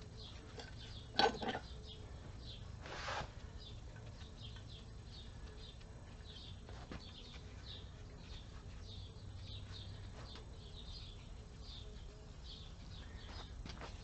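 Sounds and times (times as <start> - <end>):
birds chirping faintly: 0.0 - 14.0
low steady hum: 0.0 - 14.0.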